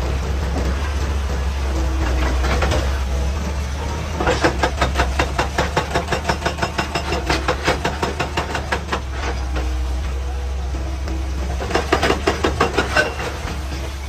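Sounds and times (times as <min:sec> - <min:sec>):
excavator engine running: 0:00.0 - 0:14.0.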